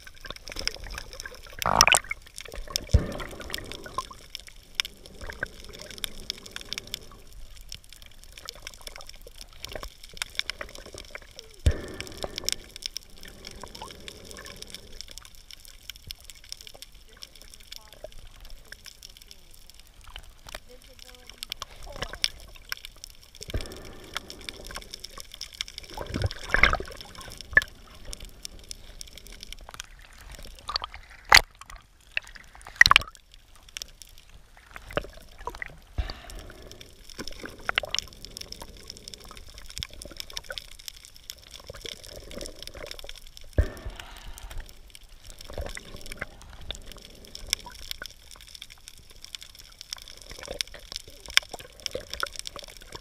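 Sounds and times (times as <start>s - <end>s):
sharp underwater clicks and cracks: 0.0s - 53.0s
underwater water rush: 0.0s - 53.0s.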